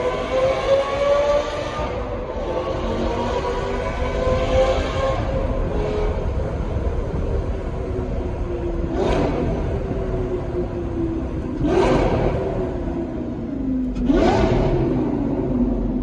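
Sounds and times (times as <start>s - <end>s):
engine revving: 0.0s - 16.0s
sports car engine rumbling: 0.0s - 16.0s.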